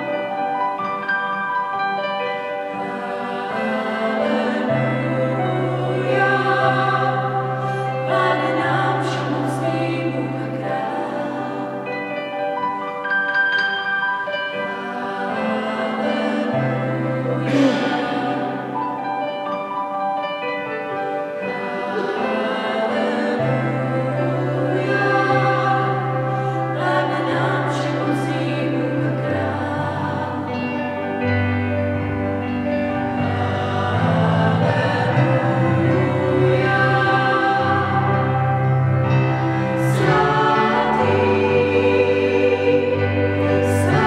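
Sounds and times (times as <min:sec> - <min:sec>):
electronic keyboard chords: 0:00.0 - 0:44.0
women singing in harmony: 0:02.2 - 0:12.9, 0:13.6 - 0:19.6, 0:20.8 - 0:44.0.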